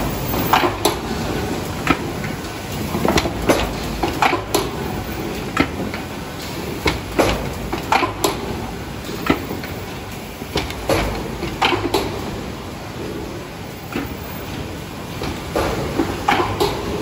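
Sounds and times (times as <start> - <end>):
sharp mechanical clacks and knocks: 0.0 - 12.4, 13.9 - 17.0.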